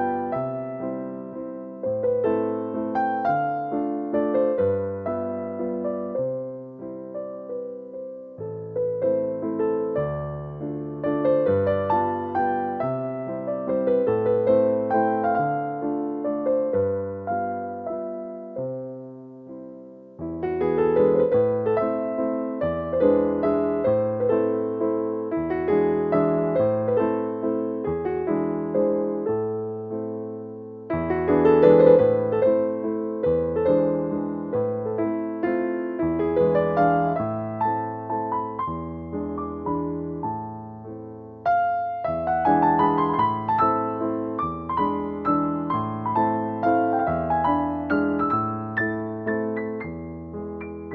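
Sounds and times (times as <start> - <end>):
classical piano music: 0.0 - 50.9.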